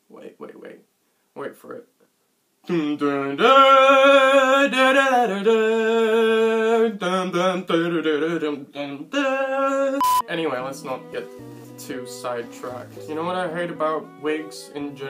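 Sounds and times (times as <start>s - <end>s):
man singing unaccompanied: 2.6s - 15.0s.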